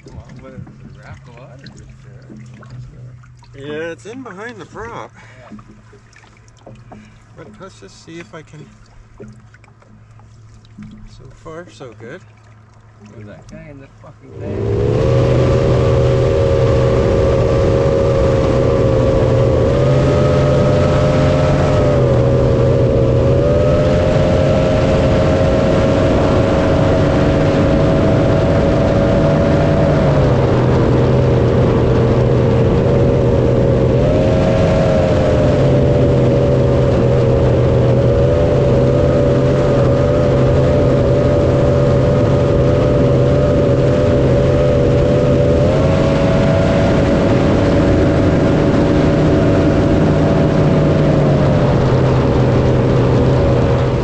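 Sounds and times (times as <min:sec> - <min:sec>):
motorboat engine running: 0:00.0 - 0:54.0
rushing water noise: 0:00.0 - 0:54.0.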